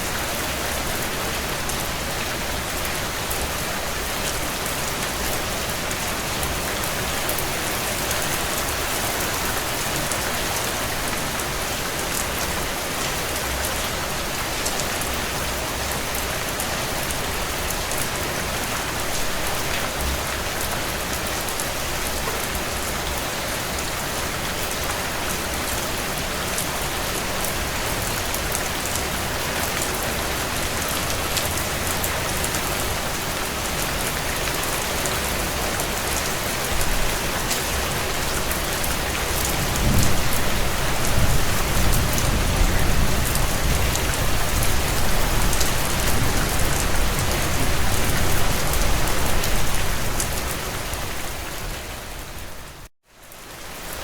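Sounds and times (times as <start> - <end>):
heavy rain on window panes: 0.1 - 54.0.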